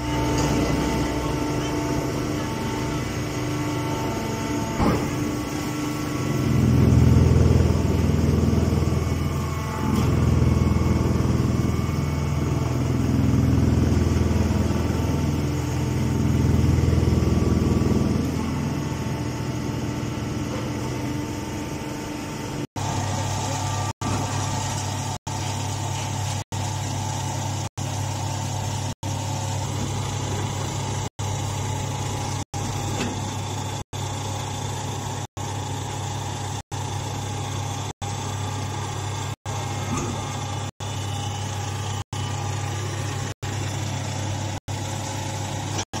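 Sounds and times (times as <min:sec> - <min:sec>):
hydraulic power unit humming: 0:00.0 - 0:46.0.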